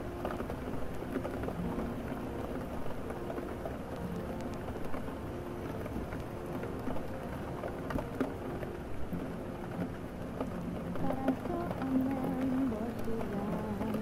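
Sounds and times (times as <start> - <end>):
rain drops ticking: 0.0 - 14.0
steady rain: 0.0 - 14.0.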